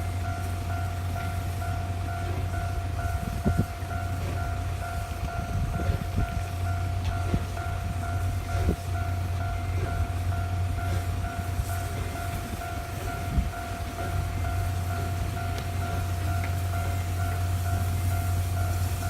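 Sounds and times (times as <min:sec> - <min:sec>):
level-crossing alarm ringing: 0:00.0 - 0:19.0
passing train rumble: 0:00.0 - 0:19.0.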